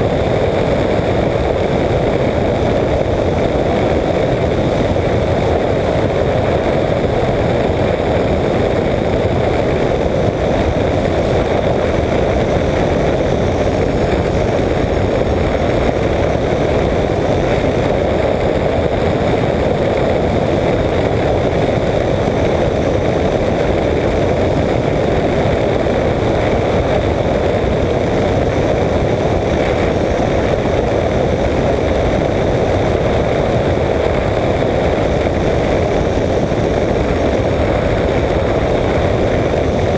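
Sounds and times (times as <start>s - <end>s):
aircraft engine and propeller drone: 0.0s - 39.9s
rushing airflow on microphone: 0.0s - 39.9s.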